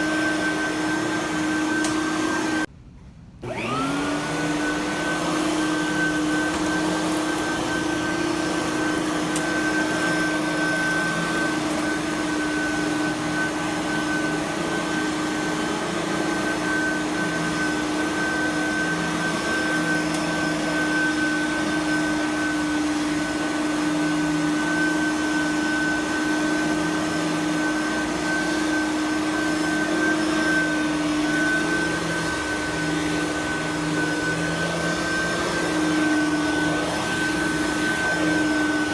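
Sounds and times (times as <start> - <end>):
vacuum cleaner running: 0.0 - 2.7, 3.4 - 38.9.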